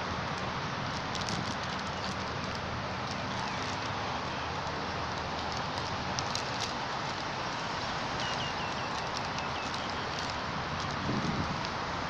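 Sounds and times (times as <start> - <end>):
steady outdoor hiss: 0.0 - 12.0
foil bag crinkling: 0.2 - 11.7.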